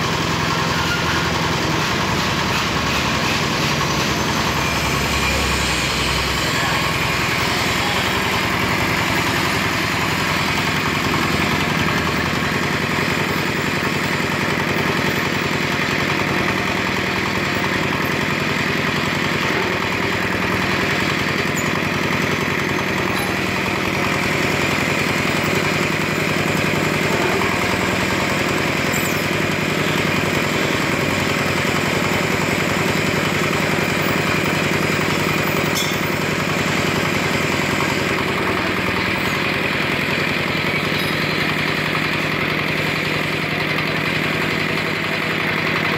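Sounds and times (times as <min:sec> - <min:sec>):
hoist engine running: 0:00.0 - 0:45.9.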